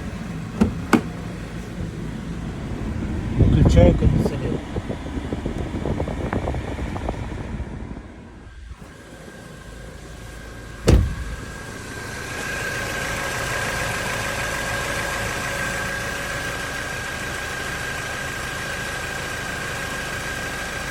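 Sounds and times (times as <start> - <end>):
car engine idling: 0.0 - 20.9
engine rattle: 0.0 - 20.9
engine whine: 0.0 - 20.9.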